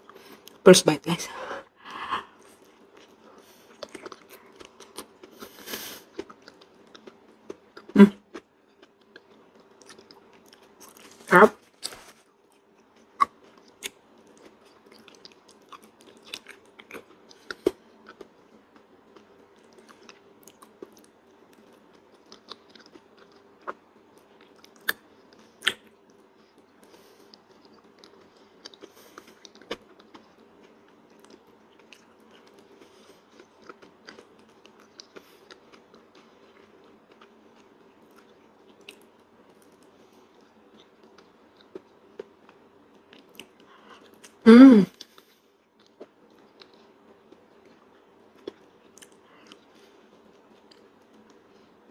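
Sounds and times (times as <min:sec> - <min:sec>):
faint steady hum: 0:00.0 - 0:51.9
wet chewing: 0:01.9 - 0:44.4.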